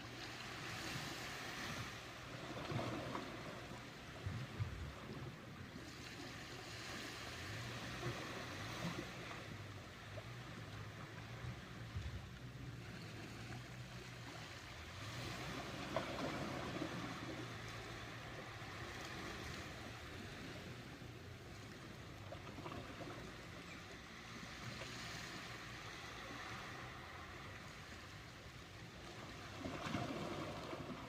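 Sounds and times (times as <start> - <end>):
ocean waves washing in: 0.0 - 31.0.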